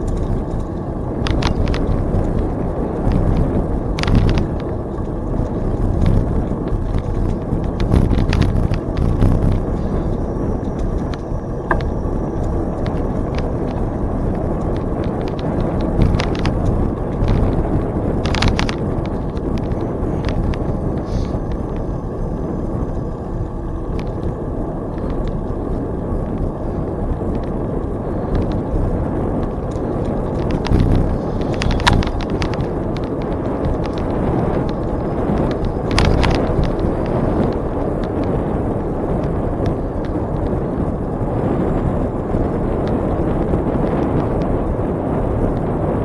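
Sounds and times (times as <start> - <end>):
bicycle tyre noise: 0.0 - 46.0
bike clicks and rattles: 0.0 - 46.0
wind on microphone: 0.0 - 46.0.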